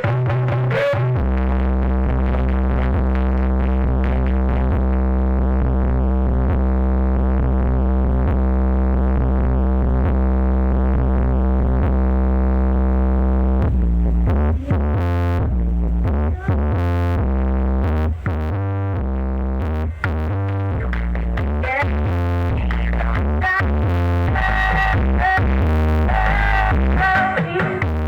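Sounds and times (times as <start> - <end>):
electronic music with synthesizer: 0.0 - 28.0
heavy bass tone: 0.0 - 28.0.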